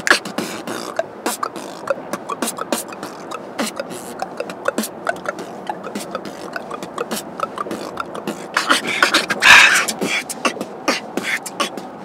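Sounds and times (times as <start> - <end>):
person beatboxing: 0.0 - 12.0.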